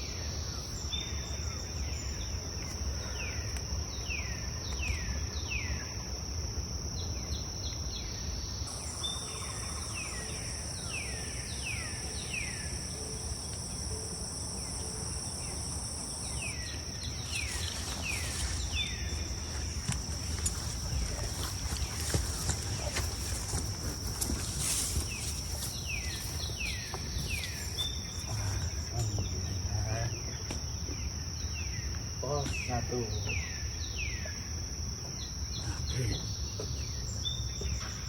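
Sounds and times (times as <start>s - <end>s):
higher insect chorus: 0.0s - 38.0s
insects droning: 0.0s - 38.0s.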